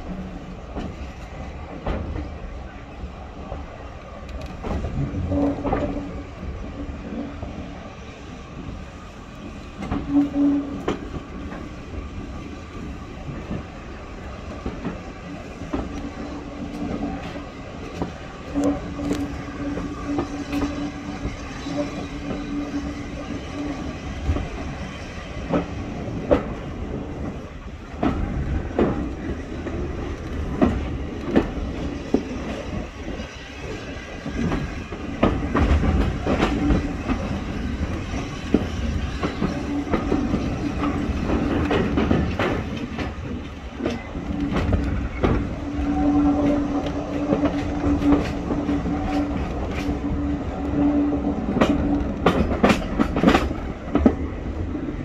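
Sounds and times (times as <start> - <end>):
train carriage rumble: 0.0 - 55.0
wheels clacking on track: 0.0 - 55.0.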